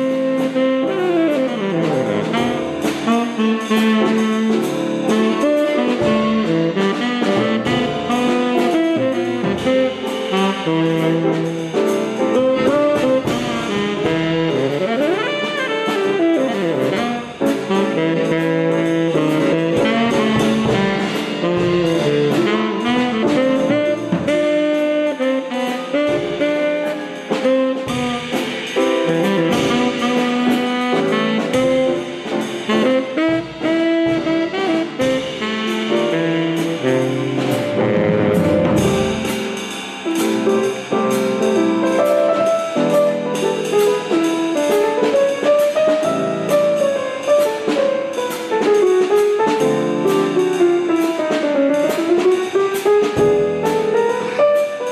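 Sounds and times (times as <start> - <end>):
drum kit with cymbal beat: 0.0 - 54.9
horns playing melody: 0.0 - 54.9.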